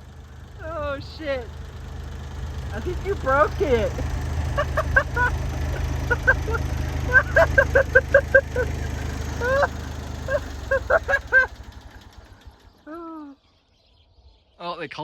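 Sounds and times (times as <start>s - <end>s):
heavy machine engine idling: 0.0s - 12.9s.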